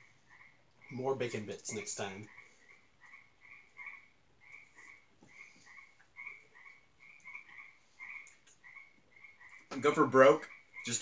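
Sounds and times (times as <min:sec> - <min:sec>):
small animal chirping: 0:00.0 - 0:11.0.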